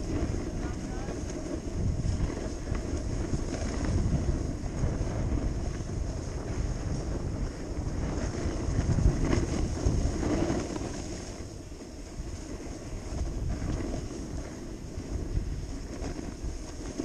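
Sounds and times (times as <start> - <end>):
snowboard scraping over snow: 0.0 - 17.0
wind buffeting microphone: 0.0 - 17.0.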